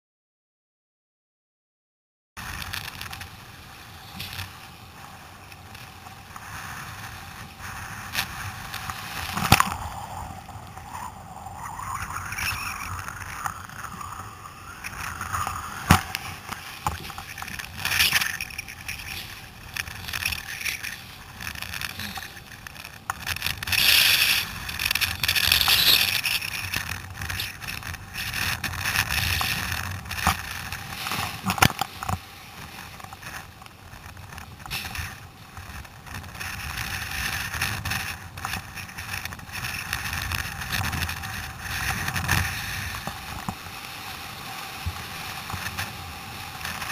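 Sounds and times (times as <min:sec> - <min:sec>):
surf breaking and splashing: 0:02.4 - 0:46.9.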